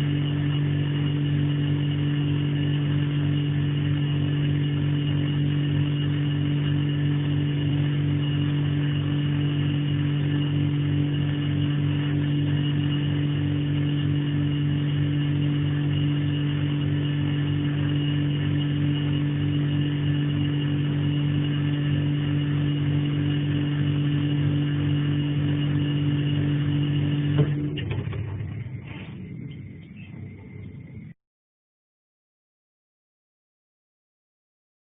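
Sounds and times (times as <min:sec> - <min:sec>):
refrigerator compressor humming: 0:00.0 - 0:31.2.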